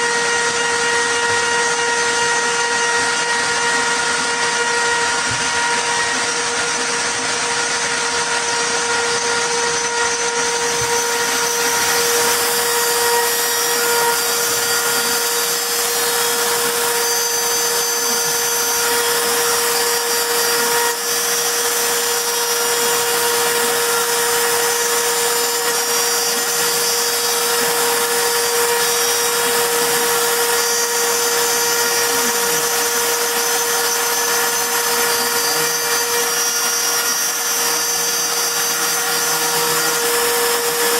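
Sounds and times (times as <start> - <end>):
hiss of wood cutting: 0.0 - 40.9
router spindle motor whine: 0.0 - 40.9.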